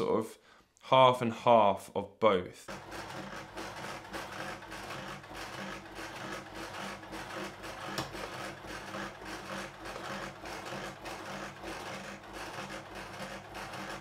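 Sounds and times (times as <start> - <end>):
sewing machine stitching: 2.7 - 14.0.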